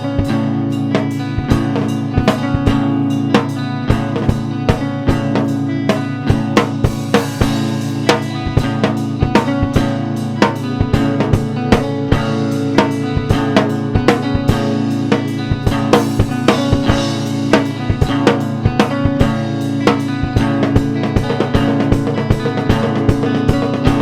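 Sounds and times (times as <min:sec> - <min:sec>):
drum kit beat: 0:00.0 - 0:24.0
instrumental band music: 0:00.0 - 0:24.0.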